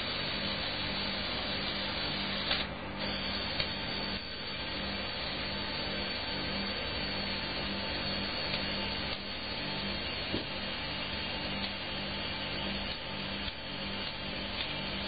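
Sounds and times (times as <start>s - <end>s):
small electric motors whirring: 0.0s - 15.0s.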